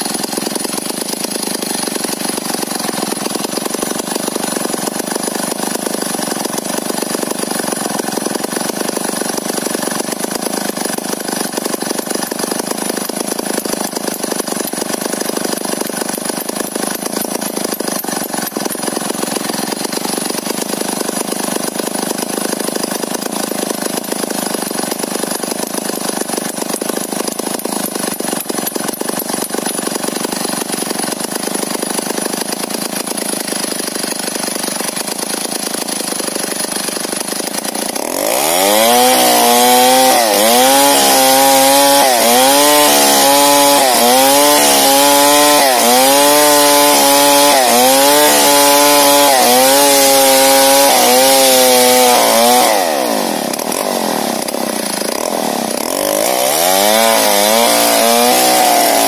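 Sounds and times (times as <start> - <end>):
chainsaw idling: 0.0 - 59.0.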